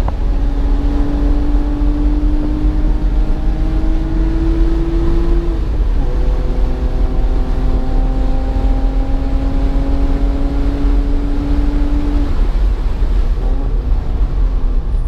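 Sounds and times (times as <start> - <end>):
car engine accelerating: 0.0 - 15.0
road and wind rumble: 0.0 - 15.0.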